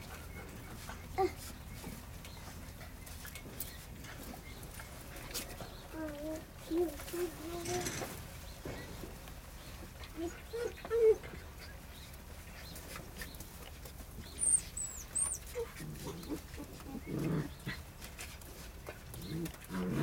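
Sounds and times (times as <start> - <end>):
puppies whining and yipping: 0.0 - 9.0, 9.6 - 19.7.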